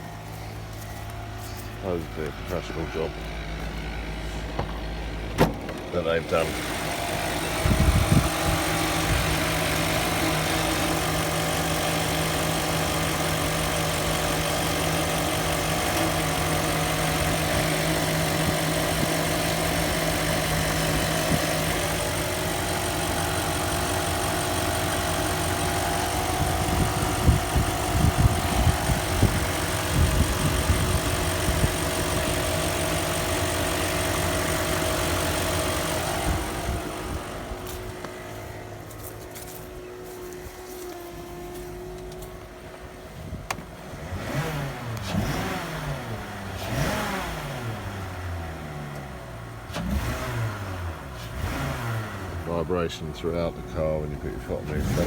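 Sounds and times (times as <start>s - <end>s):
car engine idling with whine: 0.0s - 55.0s.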